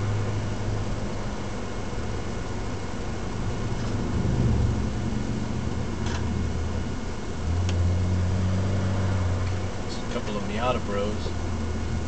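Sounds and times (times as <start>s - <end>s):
tyre and road noise: 0.0s - 12.0s
car engine accelerating: 2.2s - 12.0s.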